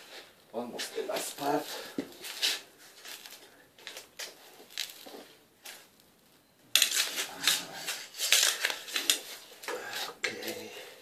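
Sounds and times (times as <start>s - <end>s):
scrapes and rustles: 0.0s - 5.9s, 6.8s - 10.7s.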